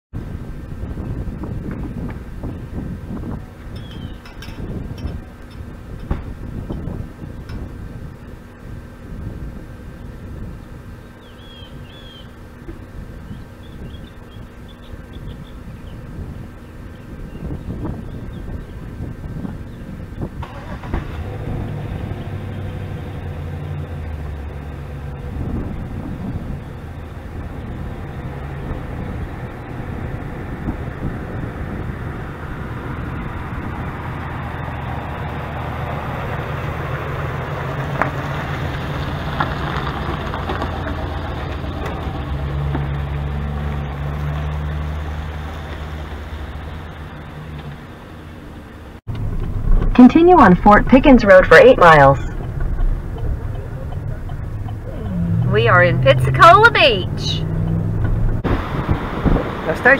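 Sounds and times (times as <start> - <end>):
tyre and road noise: 0.1 - 59.9
car engine hum: 0.2 - 59.9.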